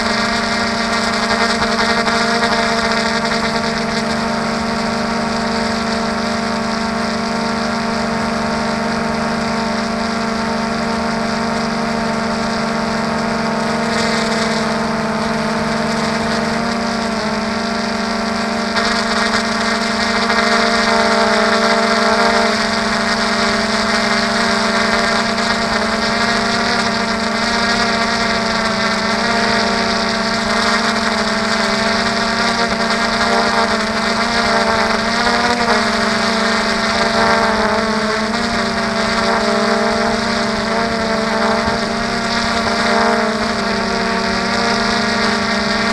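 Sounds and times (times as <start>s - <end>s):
drone propellers whining: 0.0s - 45.9s.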